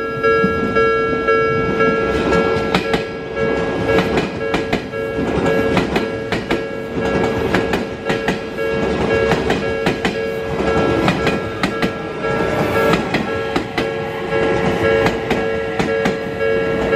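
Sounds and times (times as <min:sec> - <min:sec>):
level crossing alarm ringing: 0:00.0 - 0:16.9
train wheels clacking over rail joints: 0:01.7 - 0:16.9.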